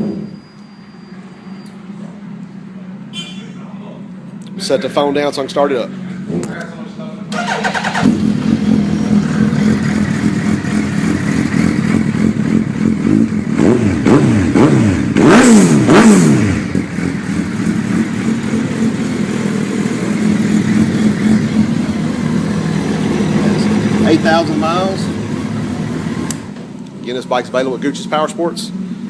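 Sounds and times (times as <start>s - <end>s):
motorcycle engine idling and revving: 4.0s - 29.0s.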